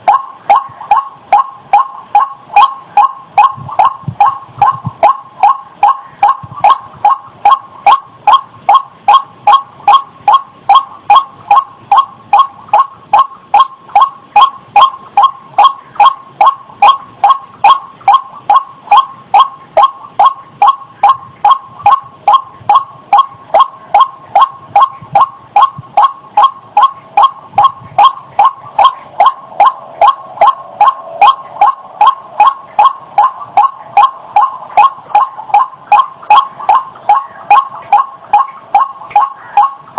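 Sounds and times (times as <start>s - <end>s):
waterhen calling harsh notes: 0.0s - 39.9s.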